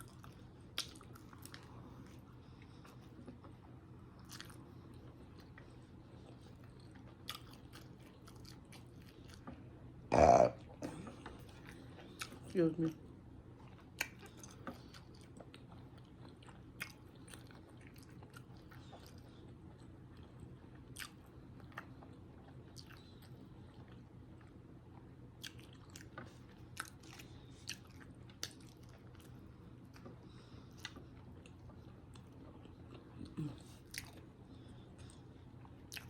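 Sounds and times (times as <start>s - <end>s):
close chewing: 0.0s - 9.6s, 10.7s - 36.0s
steady low hum: 0.0s - 36.0s.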